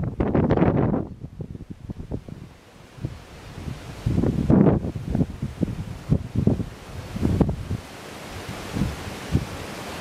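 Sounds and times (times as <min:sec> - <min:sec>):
leaves rustling: 0:00.0 - 0:10.0
wind buffeting microphone: 0:00.0 - 0:10.0.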